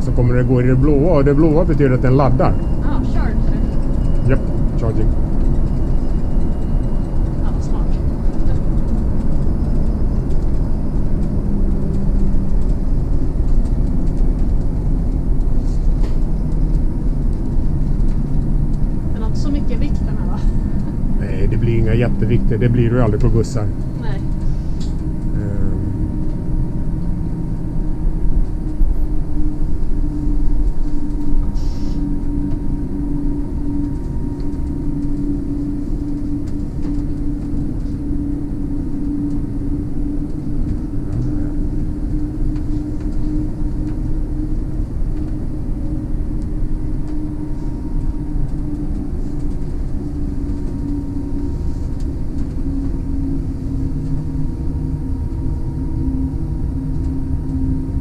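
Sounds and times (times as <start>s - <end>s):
electric drive hum: 0.0s - 58.0s
road and tyre rumble: 0.0s - 58.0s.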